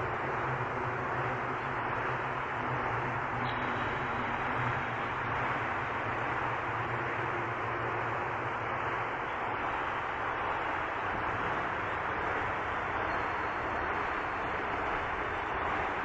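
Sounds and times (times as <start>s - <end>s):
filtered wind and rain noise: 0.0s - 16.0s.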